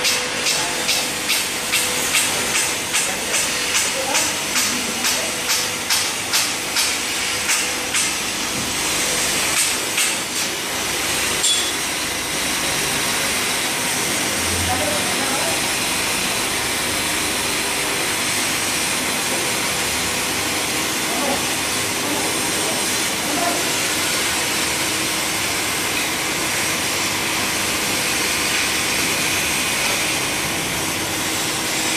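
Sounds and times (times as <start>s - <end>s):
grinding wheel wet hiss: 0.0s - 31.9s.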